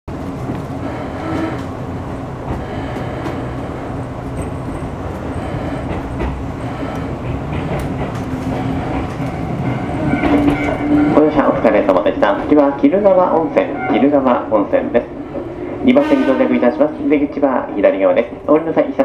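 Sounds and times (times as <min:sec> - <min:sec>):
train wheels rumbling: 0:00.1 - 0:19.0.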